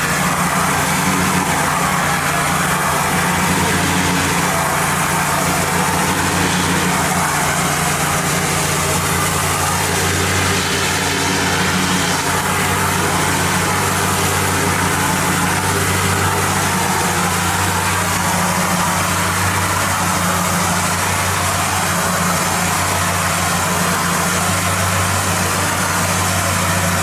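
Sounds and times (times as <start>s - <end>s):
high-pressure water spray hissing: 0.0s - 27.0s
pressure washer engine humming: 0.0s - 27.0s.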